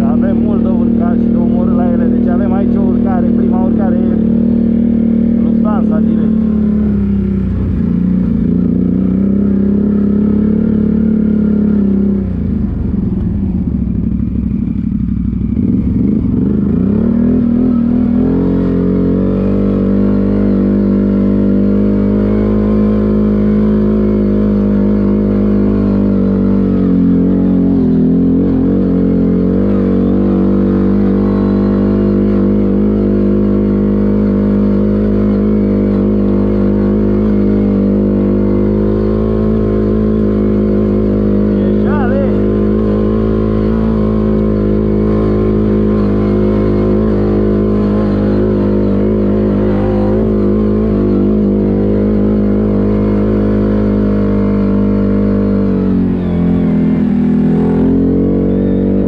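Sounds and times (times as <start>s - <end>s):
atv engine under load: 0.0s - 59.0s.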